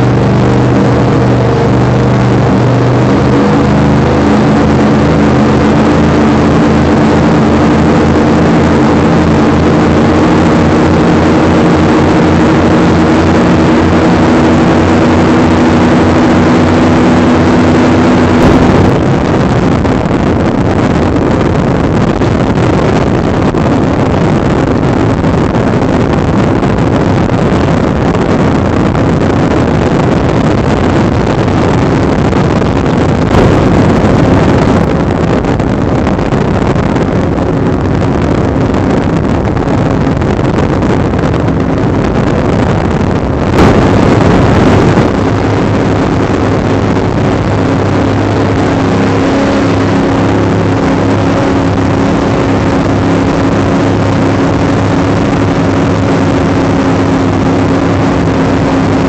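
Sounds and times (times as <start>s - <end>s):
powerboat engine droning: 0.0s - 59.0s
wind and water rushing: 0.0s - 59.0s.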